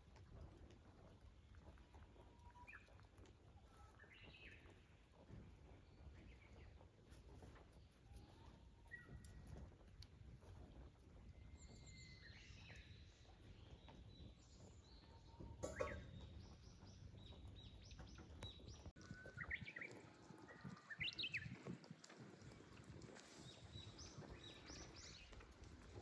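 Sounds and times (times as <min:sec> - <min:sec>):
small birds chirping: 0:01.1 - 0:09.8, 0:10.4 - 0:26.0.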